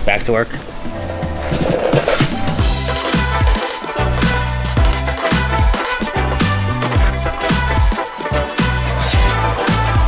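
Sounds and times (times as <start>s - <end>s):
electronic music with beat: 1.2s - 10.0s.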